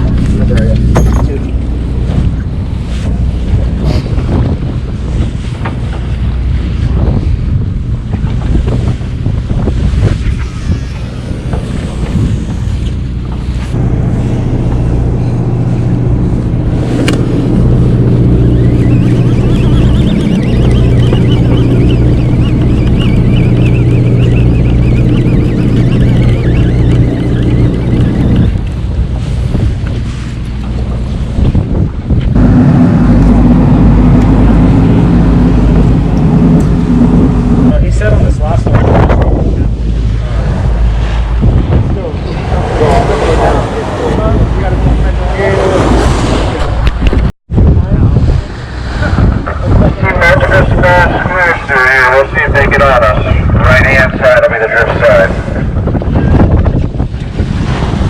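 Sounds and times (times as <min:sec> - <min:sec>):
boat engine running: 0:00.0 - 0:58.0
wind buffeting microphone: 0:00.0 - 0:58.0.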